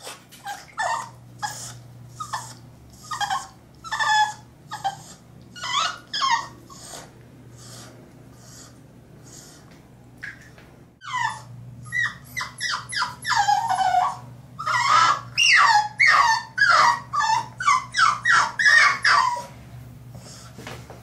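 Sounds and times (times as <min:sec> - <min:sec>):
puppy whining: 0:00.0 - 0:09.8, 0:11.0 - 0:19.6.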